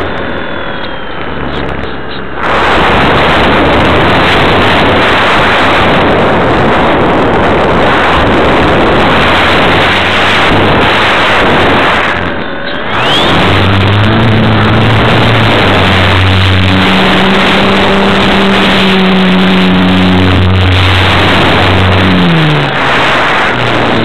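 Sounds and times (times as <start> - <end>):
rushing air: 0.0 - 24.0.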